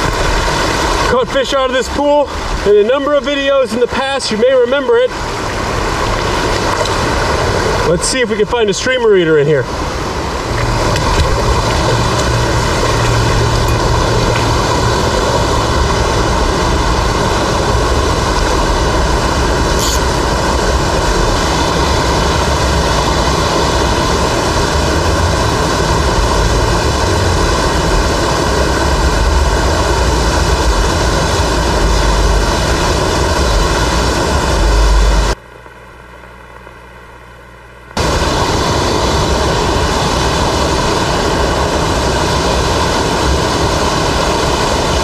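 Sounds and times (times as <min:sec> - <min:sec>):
waterfall rushing: 0:00.0 - 0:35.4, 0:38.0 - 0:45.0.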